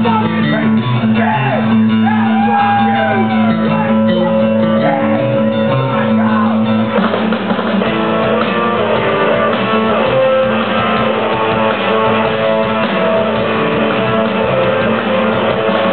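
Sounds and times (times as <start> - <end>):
electric guitar: 0.0 - 15.9
punk rock band playing live: 0.0 - 15.9.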